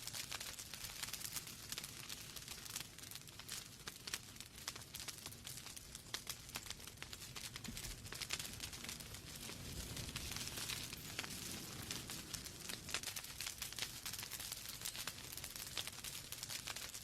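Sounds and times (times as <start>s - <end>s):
flames hissing and rumbling: 0.0s - 17.0s
logs crackling and popping: 0.0s - 17.0s.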